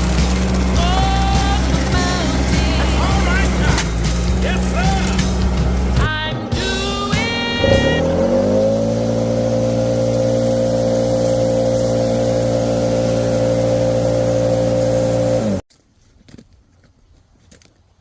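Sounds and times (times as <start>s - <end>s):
skid steer engine running: 0.0s - 15.6s.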